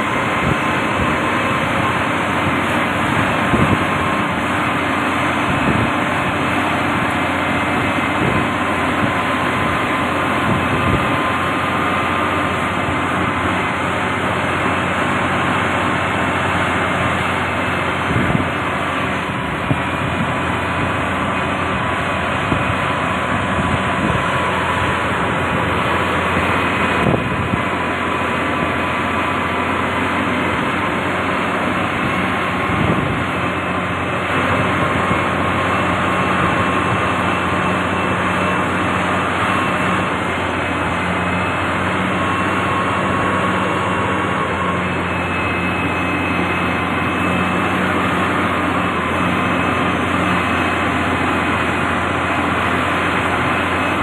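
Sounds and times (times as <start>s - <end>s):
faint high whine: 0.0s - 54.0s
heavy diesel engine droning: 0.0s - 54.0s.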